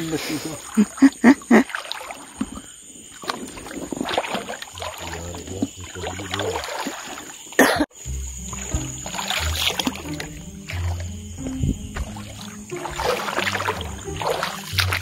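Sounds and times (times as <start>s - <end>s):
shallow water sloshing from wading: 0.0s - 7.6s, 8.4s - 15.0s.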